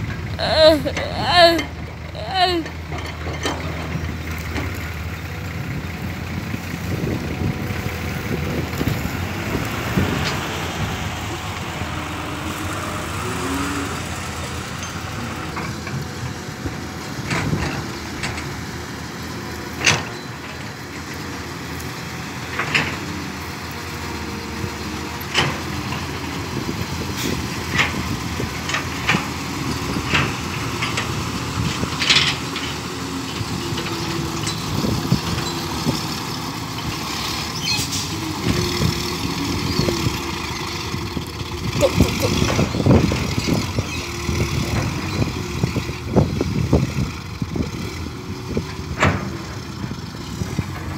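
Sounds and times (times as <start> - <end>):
diesel truck engine running: 0.0 - 50.9.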